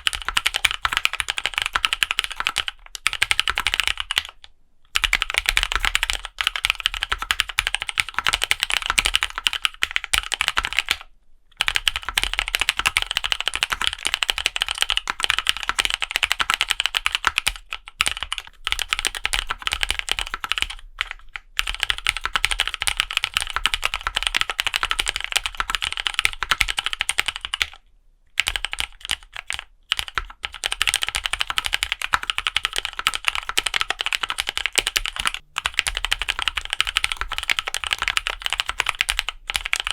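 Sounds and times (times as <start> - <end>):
mechanical keyboard typing: 0.0 - 27.8, 28.4 - 39.9.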